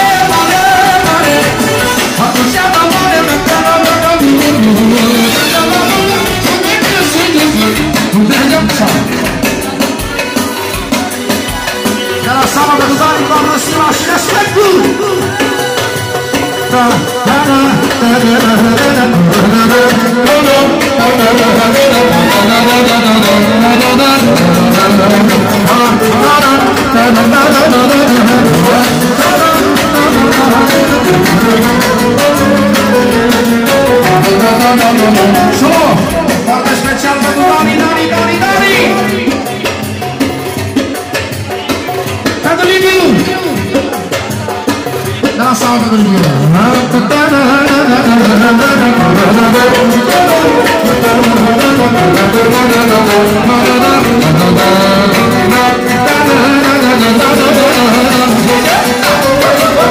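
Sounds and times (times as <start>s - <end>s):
electronic keyboard melody over beat: 0.0s - 59.9s
loud live instrumental music: 0.0s - 59.9s.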